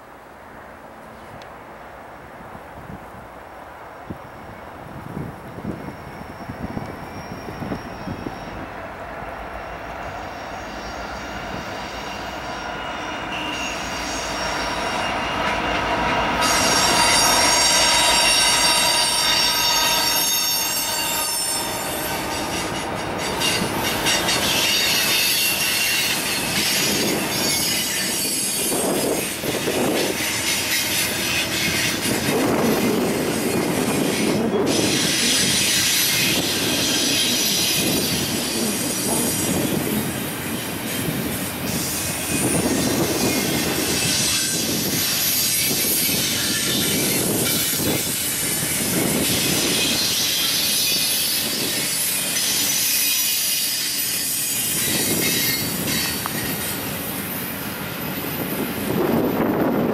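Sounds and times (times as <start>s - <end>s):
diesel locomotive engines: 0.0s - 59.9s
train wheel squeal: 5.6s - 59.9s
rail clatter: 6.0s - 59.9s.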